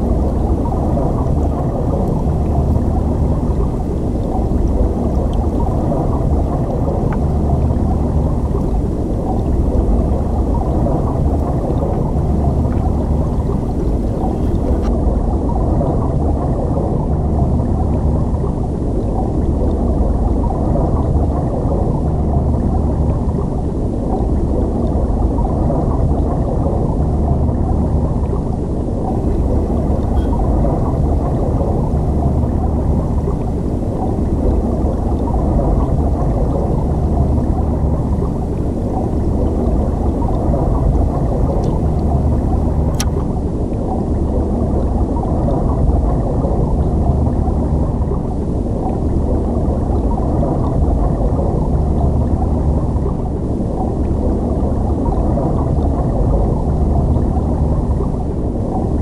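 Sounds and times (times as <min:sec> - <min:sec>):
stream water flowing underwater: 0:00.0 - 0:59.0.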